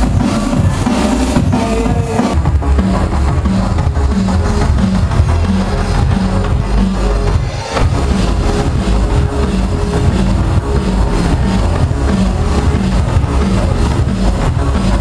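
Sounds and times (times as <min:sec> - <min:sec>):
loud dance music with heavy bass: 0:00.0 - 0:15.0.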